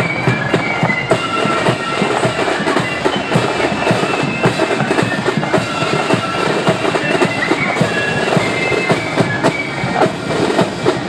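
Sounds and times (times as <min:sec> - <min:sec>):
flute melody: 0:00.0 - 0:11.0
side drums: 0:00.0 - 0:11.0.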